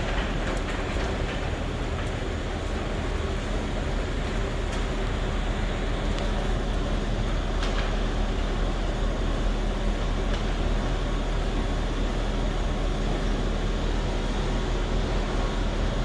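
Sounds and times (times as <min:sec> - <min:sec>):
garage door opener humming: 0:00.0 - 0:16.0.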